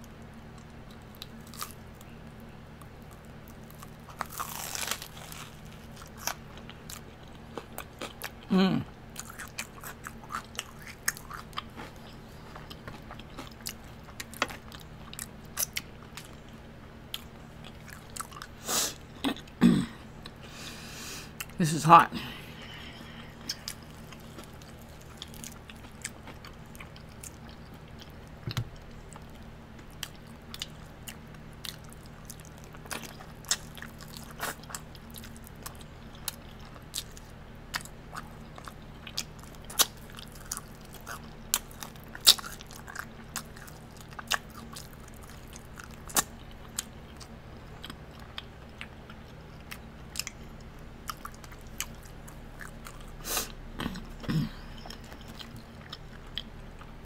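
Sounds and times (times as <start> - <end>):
chewing crispy food: 0.0 - 20.6, 21.3 - 57.0.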